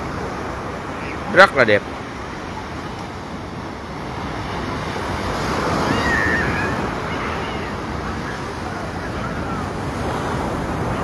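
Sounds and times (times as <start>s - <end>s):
sea surf washing onto beach: 0.0s - 11.0s.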